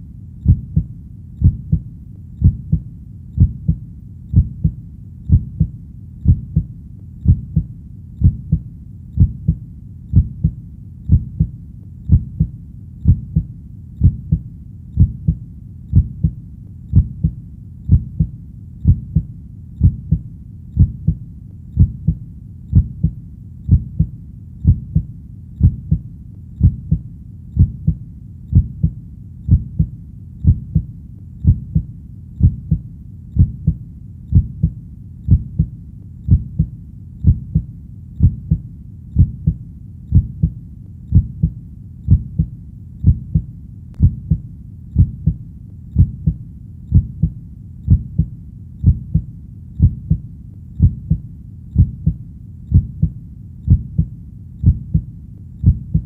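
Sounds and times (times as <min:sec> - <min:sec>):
heartbeat thumps: 0:00.4 - 0:56.0.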